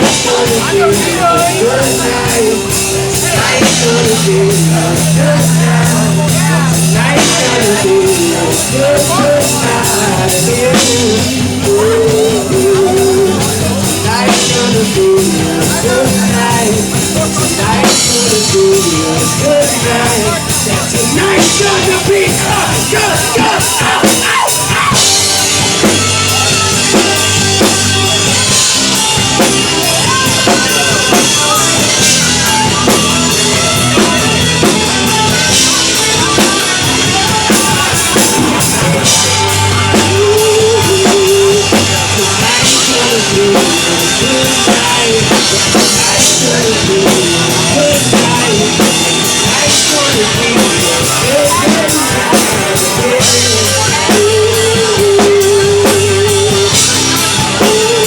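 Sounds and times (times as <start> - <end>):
live band playing dance-rock: 0.0 - 58.0.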